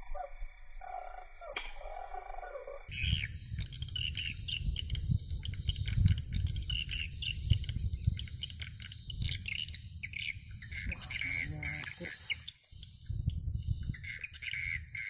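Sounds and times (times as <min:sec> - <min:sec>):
rapid bird chirps: 0:00.0 - 0:15.0.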